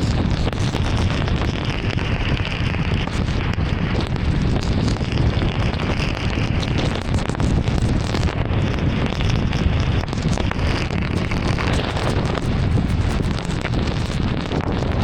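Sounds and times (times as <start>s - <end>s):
rain on a moving car: 0.0s - 15.0s.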